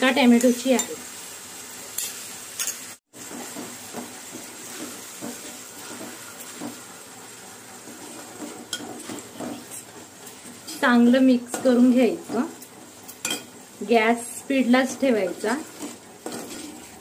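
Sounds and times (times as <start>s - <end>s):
paste sizzling in a steel pan: 0.0s - 17.0s
spoon stirring and scraping pan: 0.2s - 17.0s.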